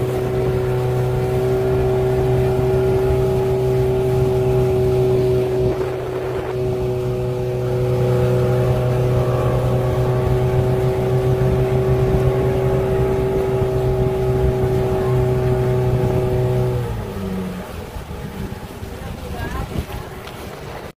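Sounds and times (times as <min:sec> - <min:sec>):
motorboat engine droning: 0:00.0 - 0:20.9
water noise: 0:00.0 - 0:20.9
wind noise: 0:00.0 - 0:20.9.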